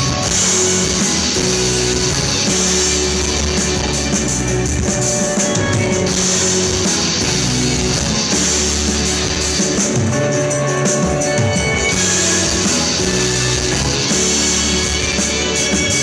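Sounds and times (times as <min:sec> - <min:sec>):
drum kit: 0:00.0 - 0:16.0
electric guitars playing: 0:00.0 - 0:16.0.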